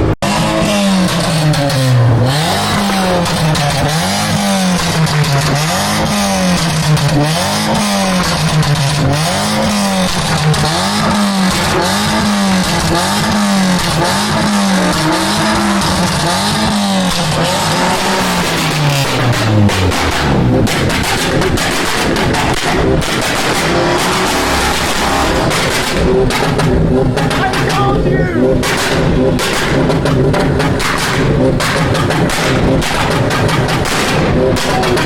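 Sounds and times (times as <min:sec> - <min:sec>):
car engine revving: 0:00.0 - 0:35.0
exhaust popping and crackling: 0:00.0 - 0:35.0.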